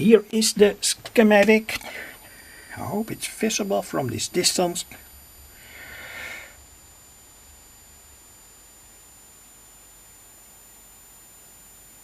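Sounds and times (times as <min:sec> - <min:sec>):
high-pitched oscillator whine: 0:00.0 - 0:12.0.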